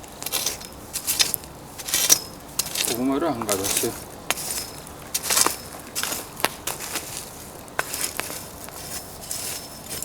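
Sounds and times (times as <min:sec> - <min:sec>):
fire crackling and popping: 0:00.0 - 0:10.0.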